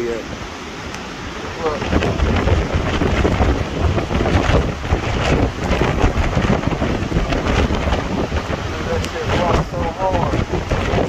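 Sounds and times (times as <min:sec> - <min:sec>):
wind gusting across microphone: 0:00.0 - 0:11.0.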